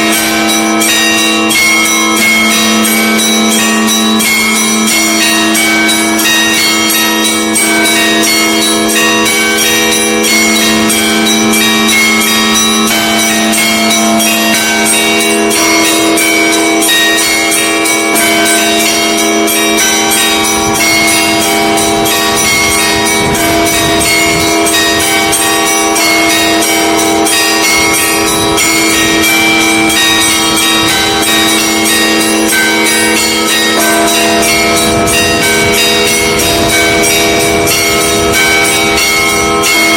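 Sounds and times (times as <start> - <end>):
deep bells humming: 0.0 - 39.9
small bells struck rapidly: 0.0 - 39.9.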